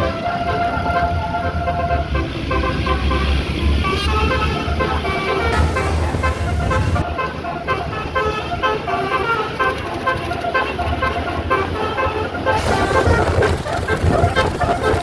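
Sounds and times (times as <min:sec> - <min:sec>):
bus engine rumble: 0:00.0 - 0:15.0
multi-tone musical air horn: 0:00.0 - 0:15.0.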